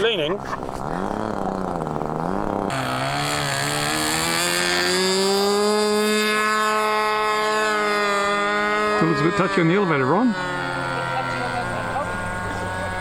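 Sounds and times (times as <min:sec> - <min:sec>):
model aeroplane motor droning: 0:00.0 - 0:13.0.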